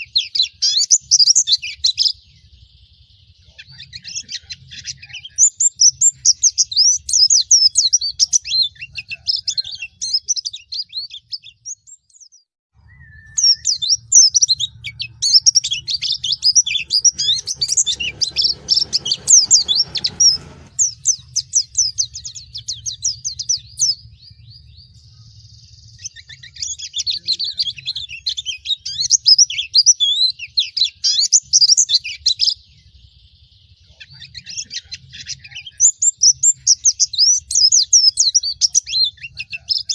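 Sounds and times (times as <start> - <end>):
bird twittering high chirps: 0.0 - 39.9.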